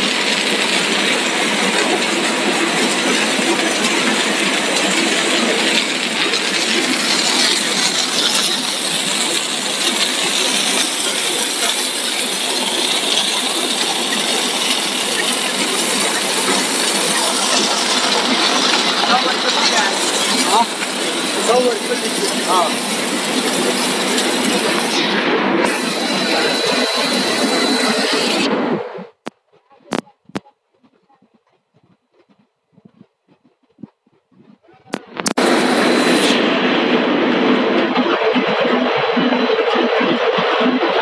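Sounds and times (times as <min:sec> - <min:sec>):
factory machinery running: 0:00.0 - 0:41.0.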